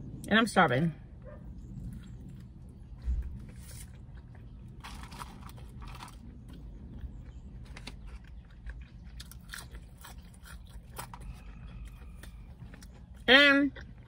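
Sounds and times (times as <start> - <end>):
close-up chewing: 1.2 - 14.0.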